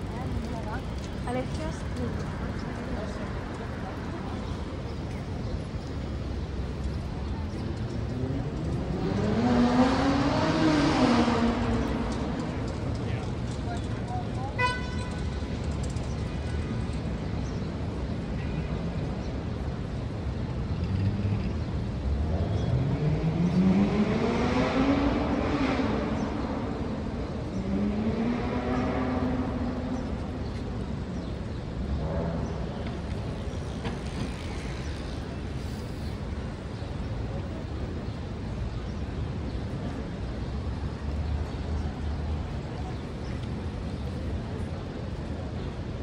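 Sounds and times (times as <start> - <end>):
city traffic rumble: 0.0 - 46.0.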